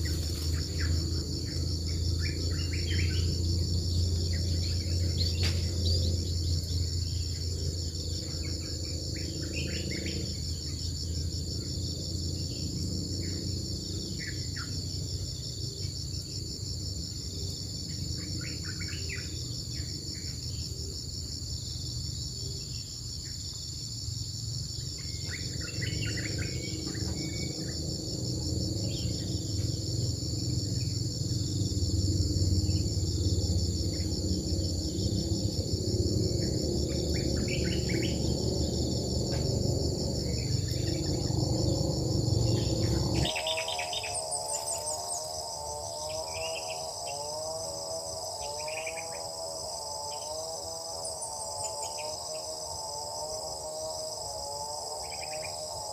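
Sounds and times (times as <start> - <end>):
crickets and insects chirring: 0.0 - 55.9.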